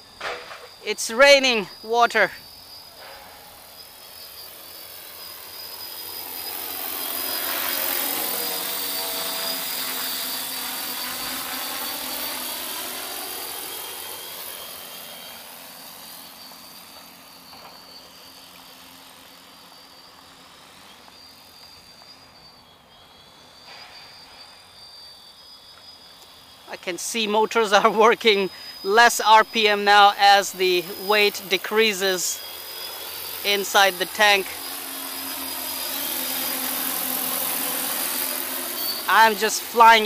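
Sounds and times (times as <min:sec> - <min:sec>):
spray drone propellers droning: 0:00.0 - 0:40.0.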